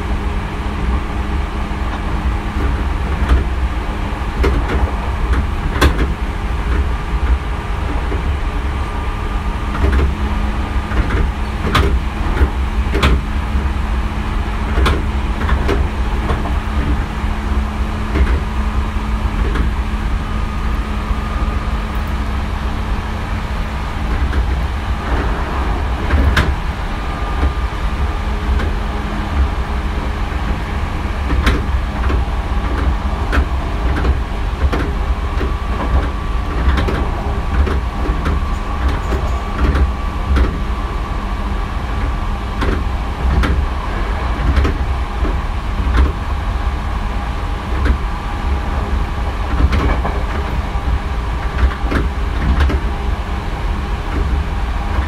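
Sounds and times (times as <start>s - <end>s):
running gear hum: 0.0s - 55.0s
train wheels rumbling on rail: 0.0s - 55.0s
wheels clicking over rail joints: 0.7s - 55.0s.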